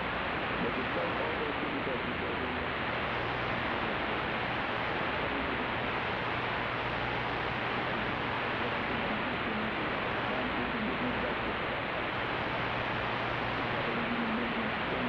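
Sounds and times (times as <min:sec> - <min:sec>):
faint low hum: 0:00.0 - 0:15.0
shortwave static hiss: 0:00.0 - 0:15.0.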